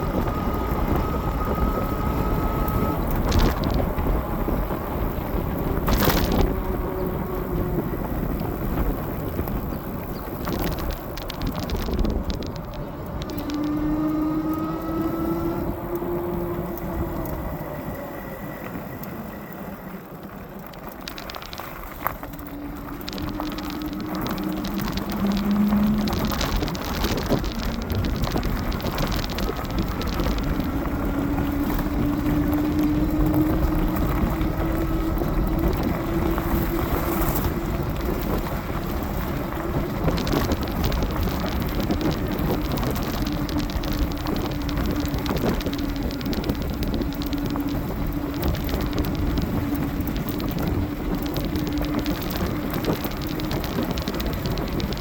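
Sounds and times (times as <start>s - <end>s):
electric bike motor whining: 0.0s - 55.0s
wind and tyres hissing: 0.0s - 55.0s.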